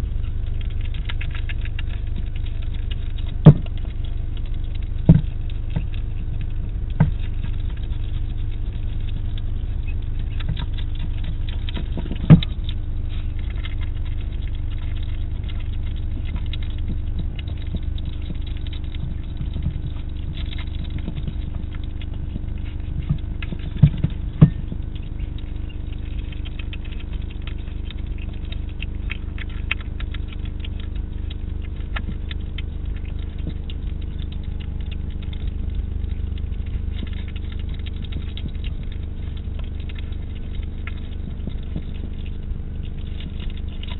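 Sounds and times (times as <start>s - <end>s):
hedgehog crunching food: 0.0s - 43.9s
steady low hum: 0.0s - 43.9s.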